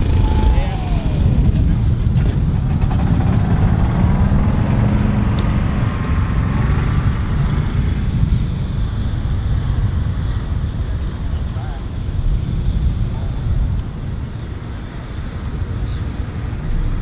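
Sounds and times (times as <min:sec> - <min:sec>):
low rumble: 0:00.0 - 0:17.0
mower engines running: 0:00.0 - 0:17.0.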